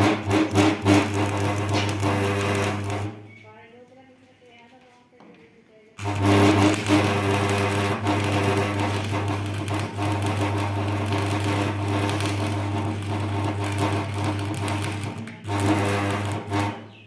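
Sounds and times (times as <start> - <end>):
welding arc crackling: 0.0 - 3.2, 6.0 - 17.0
welder humming: 0.0 - 3.3, 6.0 - 17.0.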